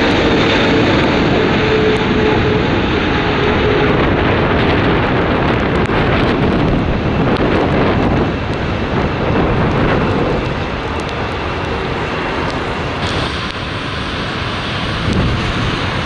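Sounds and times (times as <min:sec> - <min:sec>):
jet airliner engine: 0:00.0 - 0:16.0
wind buffeting microphone: 0:00.0 - 0:16.0.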